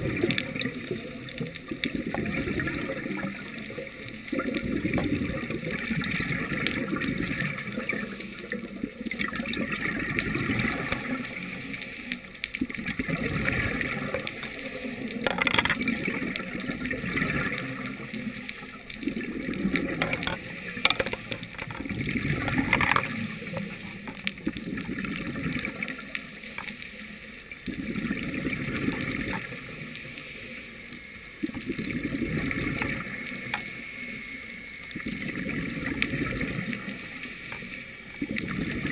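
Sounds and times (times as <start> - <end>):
steady watery hiss: 0.0 - 38.9
underwater bubbles gurgling: 0.0 - 38.9.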